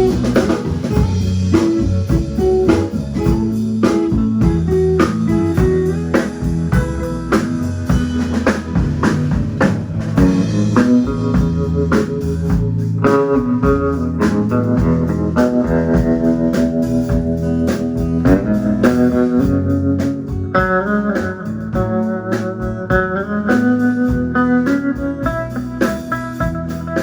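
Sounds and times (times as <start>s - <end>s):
drum kit beat: 0.0s - 27.0s
guitar: 0.0s - 27.0s
live blues band: 0.0s - 27.0s.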